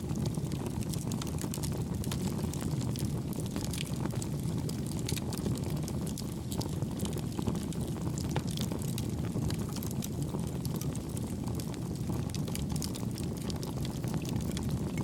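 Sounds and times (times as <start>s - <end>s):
campfire flames rumbling: 0.0s - 15.0s
soft crackles and pops: 0.0s - 15.0s.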